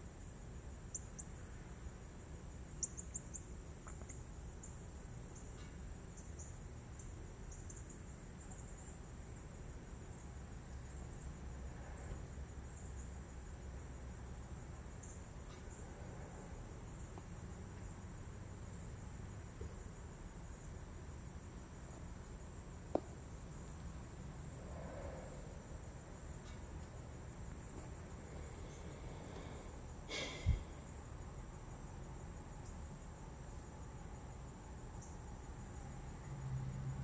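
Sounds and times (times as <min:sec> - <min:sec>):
insect chirping: 0:00.0 - 0:37.0
steady hiss: 0:00.0 - 0:37.0.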